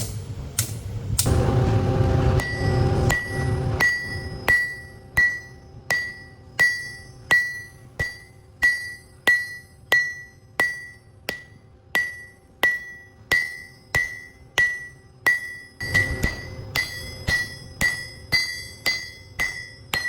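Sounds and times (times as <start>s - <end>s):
hammer striking steel on an anvil: 2.4s - 20.0s.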